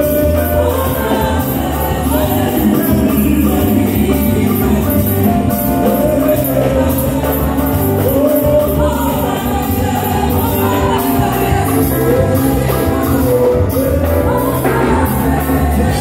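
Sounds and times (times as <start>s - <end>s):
instrumental accompaniment with bass: 0.0s - 16.0s
man singing lead vocals: 0.0s - 16.0s
women singing backing vocals: 0.0s - 16.0s.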